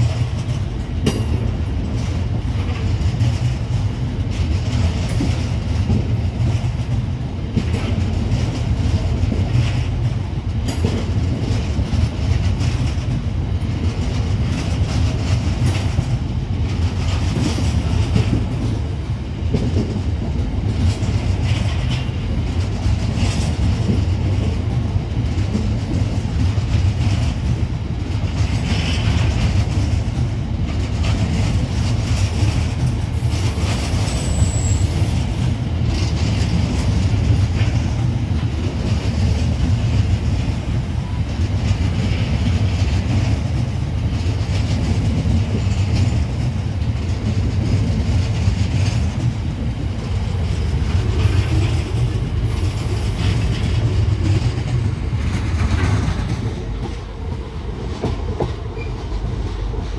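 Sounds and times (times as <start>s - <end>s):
train wagons rumbling past: 0.0s - 59.9s
wheels clacking over rail joints: 0.0s - 59.9s.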